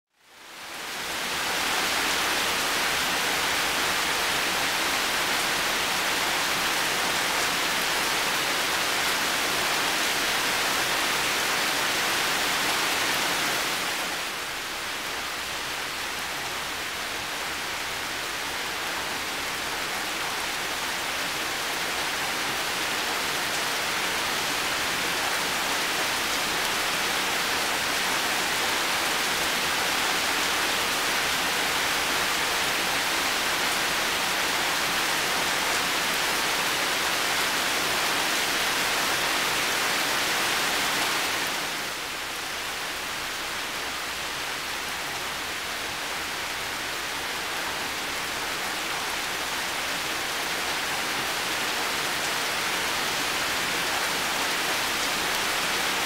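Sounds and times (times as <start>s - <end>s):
heavy rain falling: 0.2s - 56.0s.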